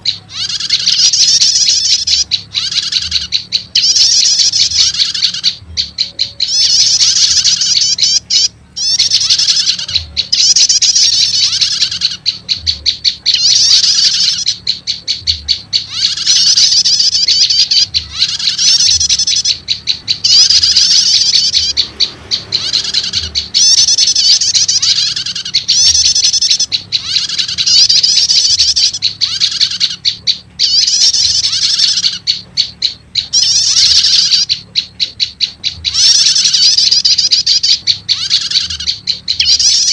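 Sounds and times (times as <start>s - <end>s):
bird trilled chattering calls: 0.0s - 39.9s.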